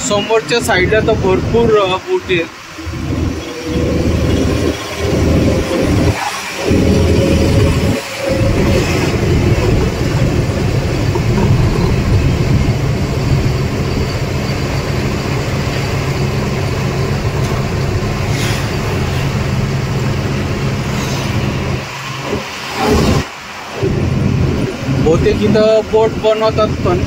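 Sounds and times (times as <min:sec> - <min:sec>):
road noise: 0:00.0 - 0:27.0
truck engine droning: 0:00.0 - 0:27.0.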